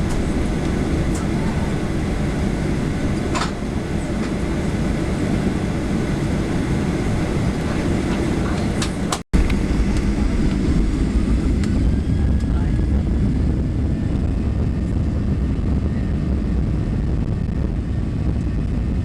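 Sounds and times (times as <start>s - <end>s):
airplane engines rumbling in cabin: 0.0s - 19.0s.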